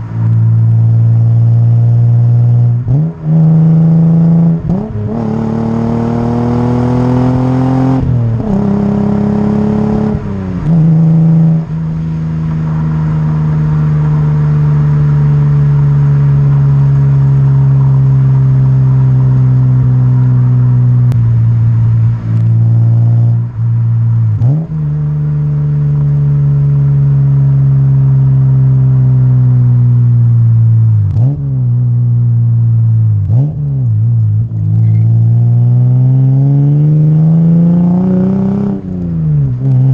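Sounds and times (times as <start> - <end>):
car engine accelerating and cruising: 0.0 - 39.9.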